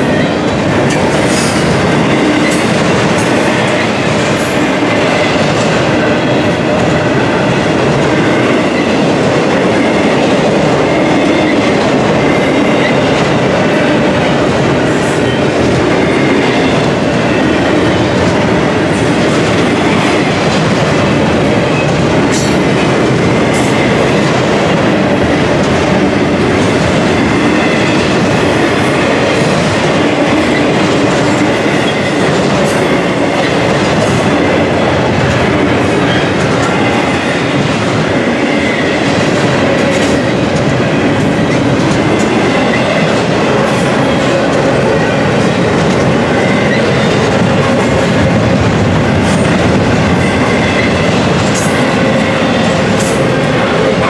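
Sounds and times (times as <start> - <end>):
train cars rolling on rails: 0.0 - 54.0.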